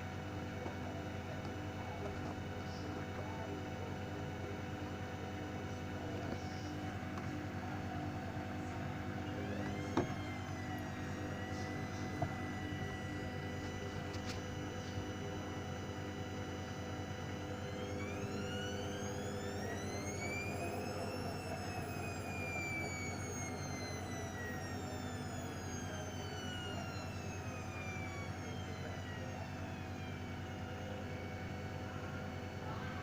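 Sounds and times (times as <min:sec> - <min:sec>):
steady mains hum: 0:00.0 - 0:33.0
washing machine motor whining: 0:00.0 - 0:33.0.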